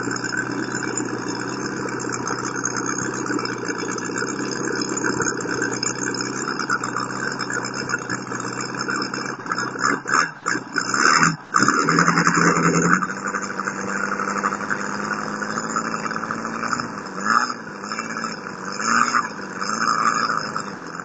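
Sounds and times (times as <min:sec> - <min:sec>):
model aircraft engine running: 0:00.0 - 0:21.0.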